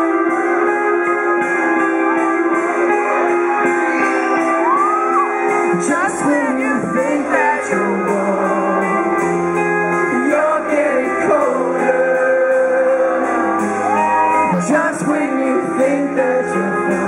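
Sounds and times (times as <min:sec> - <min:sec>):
bass line: 0:00.0 - 0:17.0
electric guitars ringing: 0:00.0 - 0:17.0.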